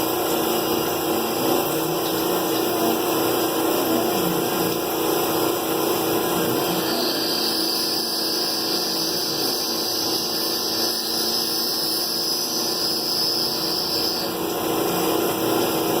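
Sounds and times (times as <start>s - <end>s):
high steady whine: 0.0s - 16.0s
machine tool motor running: 0.0s - 16.0s.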